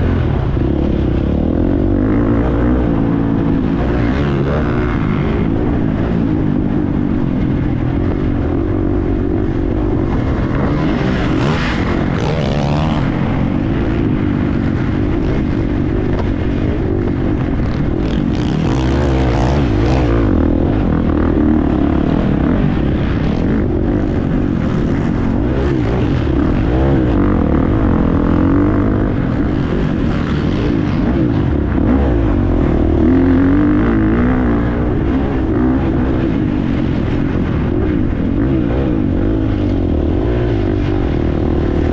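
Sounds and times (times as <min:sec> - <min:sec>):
motocross engine revving: 0:00.0 - 0:37.5.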